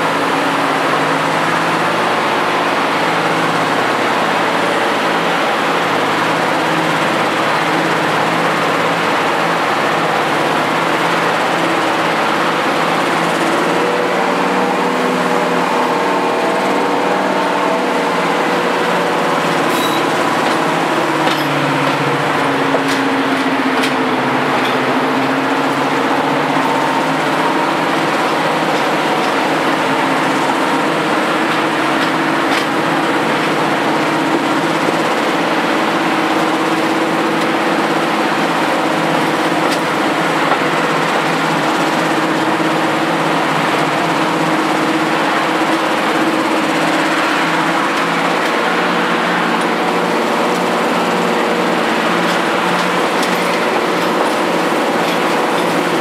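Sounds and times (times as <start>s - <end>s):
locomotive diesel engine: 0.0s - 56.0s.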